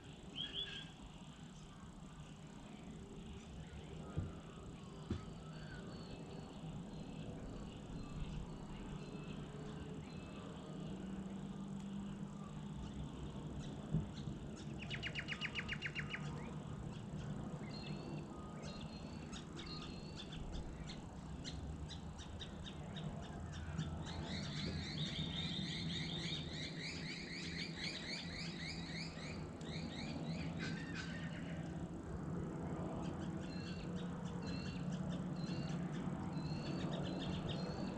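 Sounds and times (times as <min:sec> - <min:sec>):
steady low hum: 0:00.0 - 0:37.9
birds chirping and trilling: 0:00.1 - 0:02.0, 0:03.2 - 0:11.4, 0:12.4 - 0:31.6, 0:32.9 - 0:37.9.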